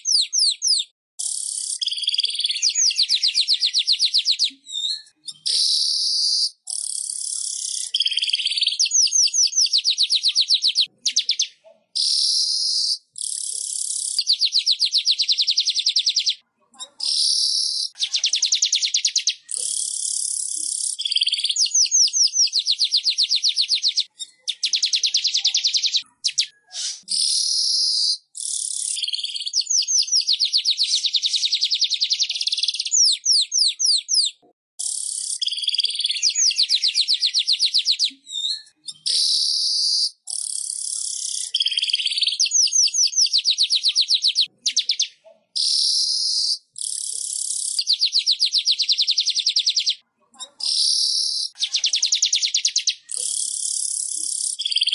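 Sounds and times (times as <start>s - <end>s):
bird chattering trills: 0.0s - 4.5s, 5.1s - 16.4s, 17.0s - 50.0s, 50.6s - 54.9s.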